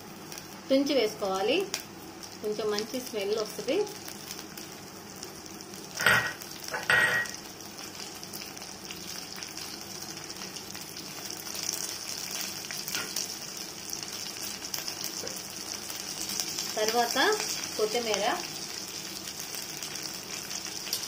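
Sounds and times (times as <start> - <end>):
hot oil sizzling and crackling: 0.0 - 21.0.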